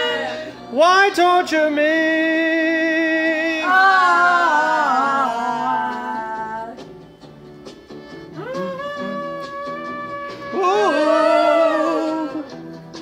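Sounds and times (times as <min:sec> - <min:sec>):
person singing: 0:00.0 - 0:06.9, 0:08.3 - 0:12.8.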